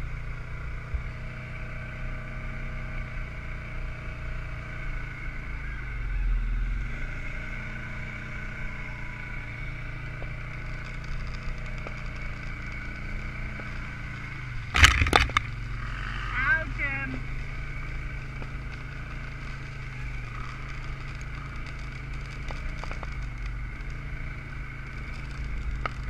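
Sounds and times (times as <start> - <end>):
quad engine running: 0.0 - 26.0.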